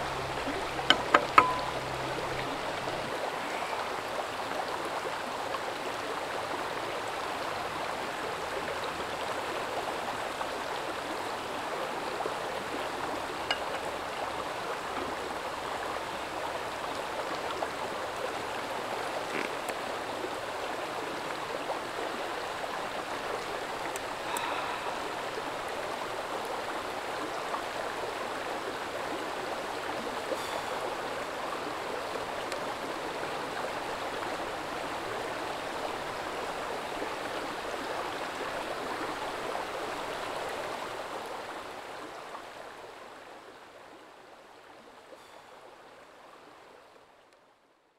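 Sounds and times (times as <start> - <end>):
river flowing over stones: 0.0 - 47.2.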